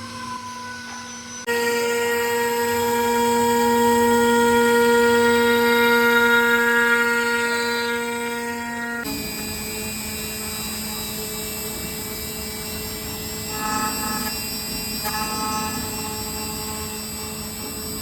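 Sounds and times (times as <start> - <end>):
motor humming: 0.9 - 18.0.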